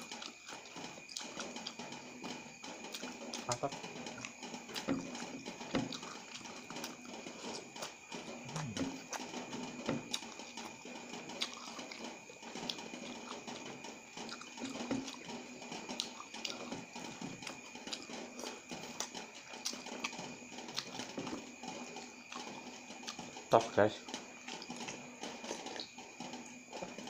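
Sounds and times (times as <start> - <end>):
slurping: 0.0 - 23.3
wet chewing: 0.0 - 23.4.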